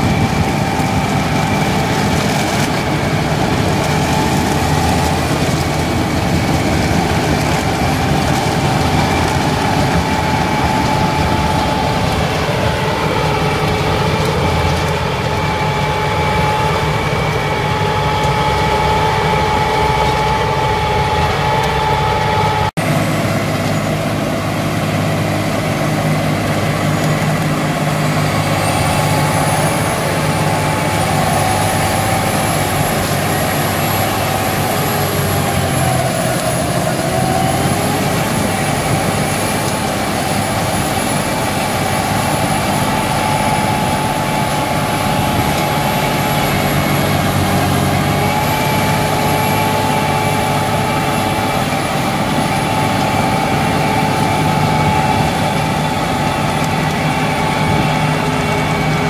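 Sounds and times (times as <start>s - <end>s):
mulcher rotor grinding: 0.0s - 59.0s
tractor diesel engine under load: 0.0s - 59.0s.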